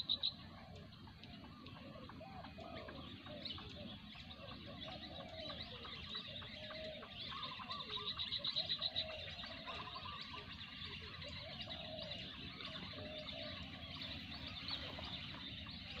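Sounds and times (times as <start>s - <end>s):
ducks calling: 0.0s - 16.0s.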